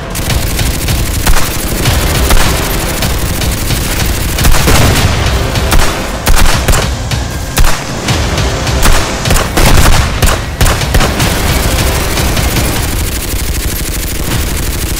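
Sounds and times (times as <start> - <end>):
rifle shots: 0.0 - 8.0, 8.8 - 14.9.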